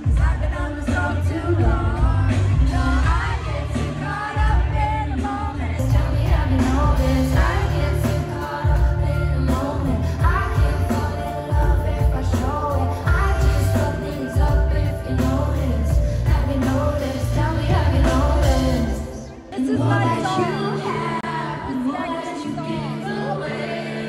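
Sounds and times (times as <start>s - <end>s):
live pop-rock band playing: 0.0s - 24.0s
woman singing: 0.0s - 24.0s.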